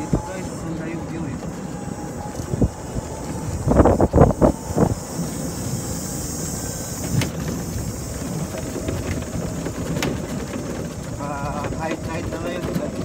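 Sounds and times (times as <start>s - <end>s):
golf cart rumbling over dirt: 0.0s - 13.0s
wind noise on microphone: 0.0s - 13.0s.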